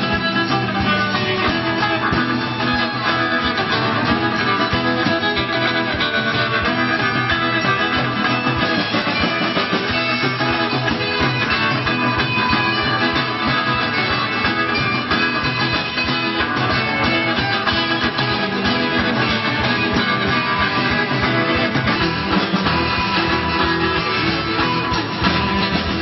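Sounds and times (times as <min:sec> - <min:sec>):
drum kit beat: 0:00.0 - 0:26.0
guitars: 0:00.0 - 0:26.0
live band playing: 0:00.0 - 0:26.0.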